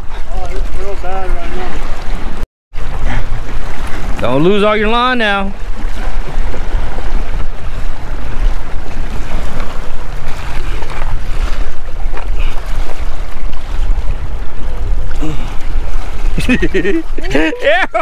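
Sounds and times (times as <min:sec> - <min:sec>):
waves washing against rocks: 0:00.0 - 0:18.0
wind buffeting microphone: 0:00.0 - 0:18.0.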